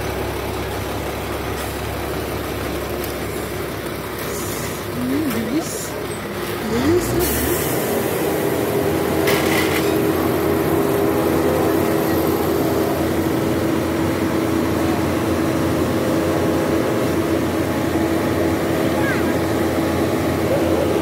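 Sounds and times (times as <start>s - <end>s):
concrete mixer truck humming: 0.0s - 21.0s.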